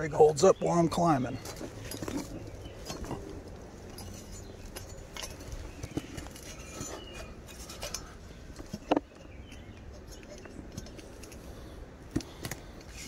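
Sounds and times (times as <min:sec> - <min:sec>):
climbing gear clinking on steel: 0:01.1 - 0:13.0.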